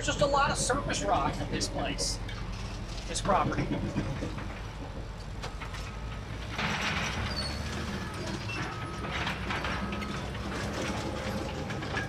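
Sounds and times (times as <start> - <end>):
diesel dozer engine under load: 0.0 - 12.0
steel tracks clattering and squeaking: 0.0 - 12.0.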